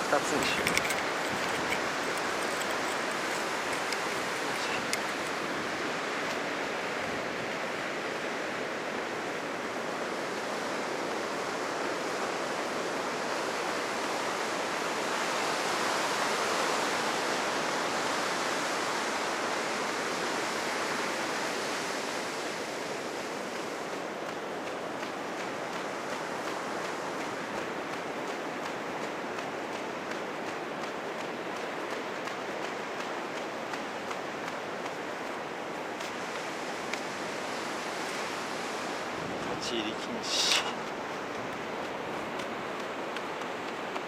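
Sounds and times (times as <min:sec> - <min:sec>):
heavy surf breaking on beach: 0:00.0 - 0:44.0.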